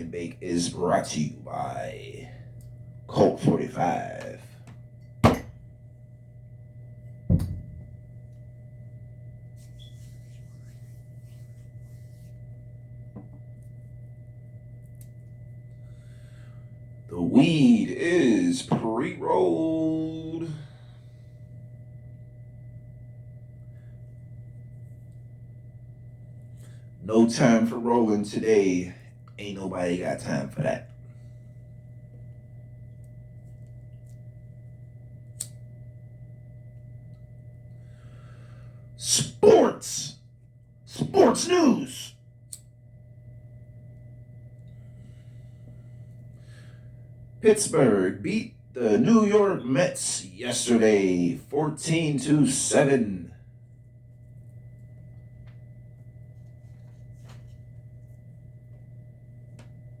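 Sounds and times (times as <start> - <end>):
low electrical hum: 0.0 - 60.0.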